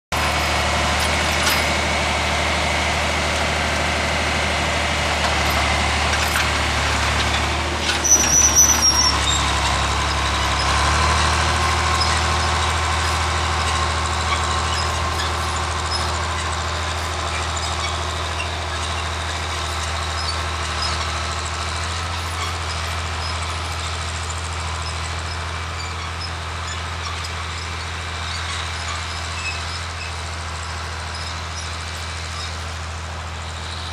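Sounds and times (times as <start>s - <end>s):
clatter with high squeak: 0.1s - 2.0s, 5.1s - 33.9s
tractor engine under load: 0.1s - 33.9s.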